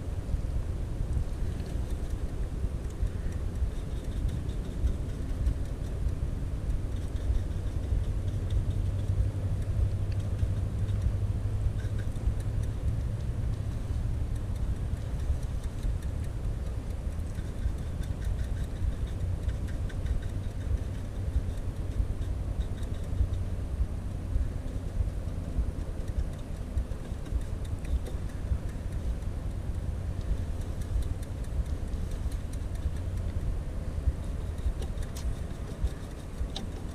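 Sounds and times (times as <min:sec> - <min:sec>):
low rumble of road traffic: 0:00.0 - 0:36.9
faint ticks: 0:01.1 - 0:36.9.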